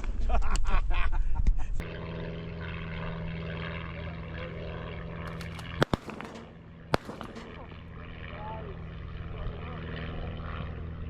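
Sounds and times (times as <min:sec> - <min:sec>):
engine drone: 0:01.8 - 0:11.0.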